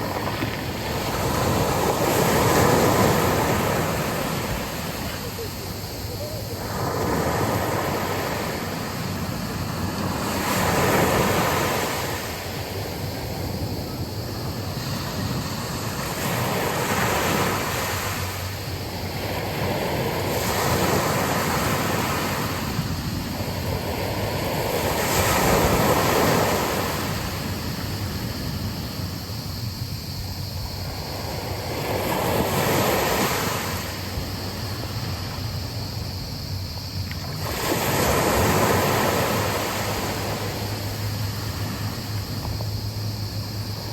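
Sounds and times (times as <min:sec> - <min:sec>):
sea waves breaking on beach: 0:00.0 - 0:30.0, 0:30.6 - 0:43.9
wind: 0:00.0 - 0:43.9.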